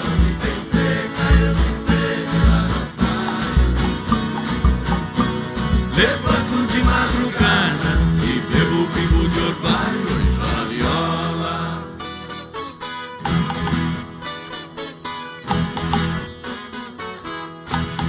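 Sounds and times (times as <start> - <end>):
country band playing: 0.0 - 18.0
plucked and strummed guitars: 0.0 - 18.0.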